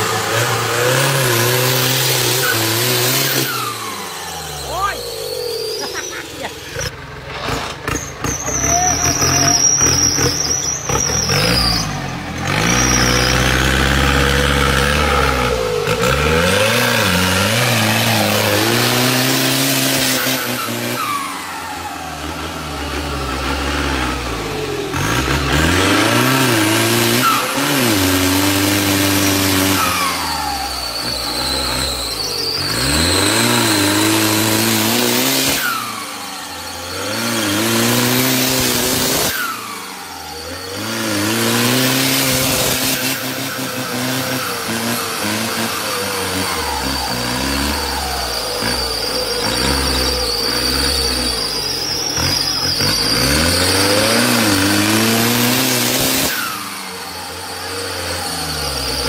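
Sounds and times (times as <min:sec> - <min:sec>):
off-road engine revving: 0:00.0 - 0:59.0.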